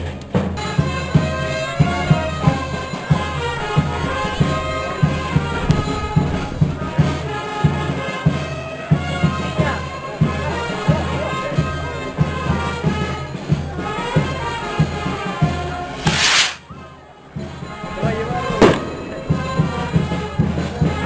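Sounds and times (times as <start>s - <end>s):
bass drums beating: 0.0s - 15.1s, 17.4s - 21.0s
festival band melody: 0.0s - 21.0s.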